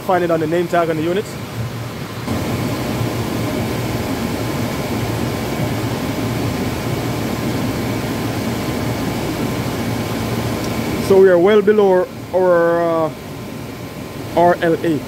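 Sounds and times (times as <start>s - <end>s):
air conditioner hum: 0.0s - 15.0s.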